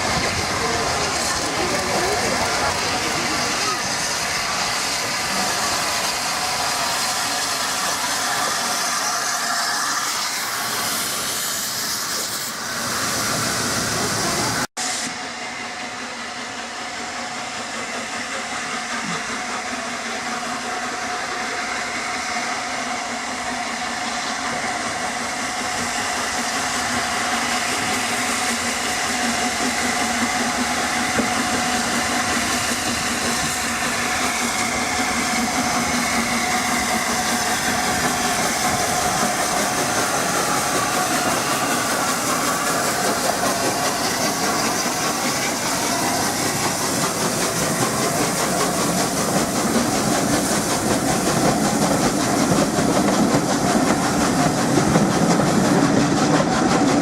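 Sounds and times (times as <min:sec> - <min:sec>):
steam train running: 0:00.0 - 0:57.0.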